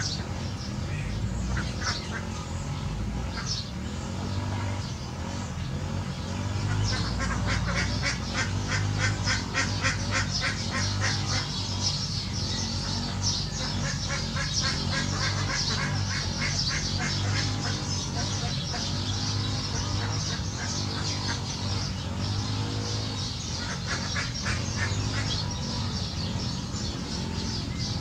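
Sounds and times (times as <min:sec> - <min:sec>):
birds calling rapidly: 0:00.0 - 0:28.0.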